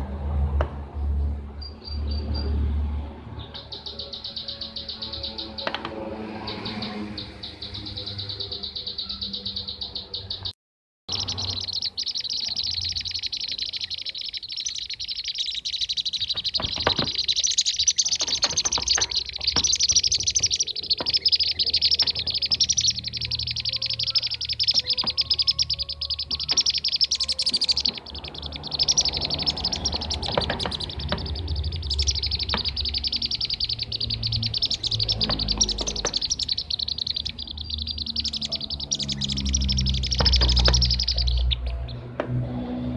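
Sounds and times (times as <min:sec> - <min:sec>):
birds rapid high chirps: 0:00.8 - 0:42.9.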